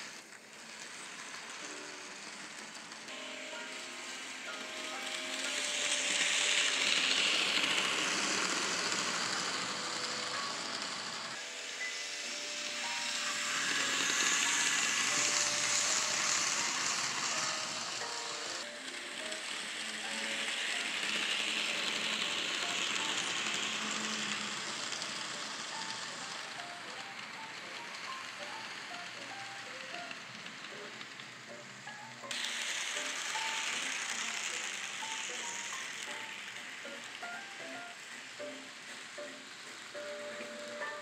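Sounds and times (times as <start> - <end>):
model train passing: 0.0 - 41.0.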